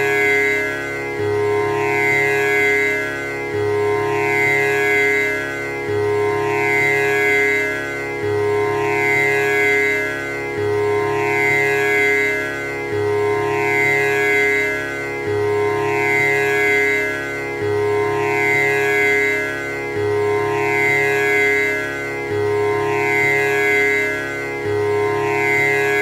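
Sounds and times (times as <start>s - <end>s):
tanpura drone: 0.0s - 26.0s.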